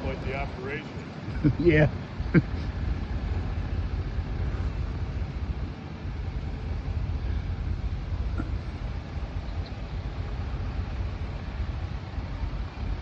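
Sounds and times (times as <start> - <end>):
heavy engine rumbling: 0.0 - 13.0.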